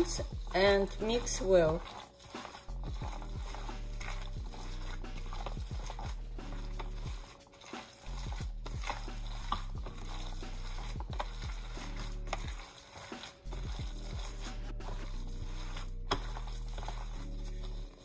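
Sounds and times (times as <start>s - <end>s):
plastic glove rustling: 0.0s - 18.0s
soft squishing: 0.0s - 18.0s.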